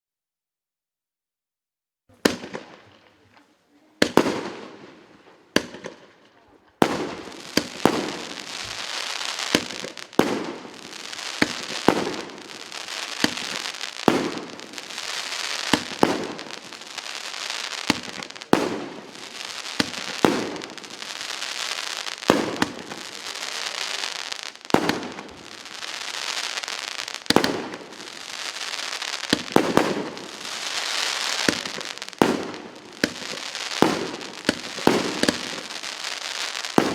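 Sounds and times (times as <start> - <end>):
crackling of bursting sparks: 5.6 - 36.9
firework cake bangs: 6.8 - 36.9.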